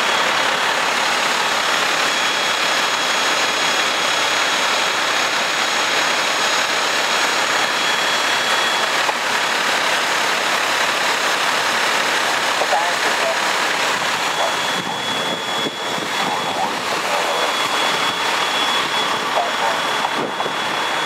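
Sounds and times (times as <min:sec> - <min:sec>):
faint high whine: 0:00.0 - 0:04.5, 0:05.4 - 0:09.2, 0:12.4 - 0:21.0
truck diesel engine idling: 0:00.0 - 0:21.0.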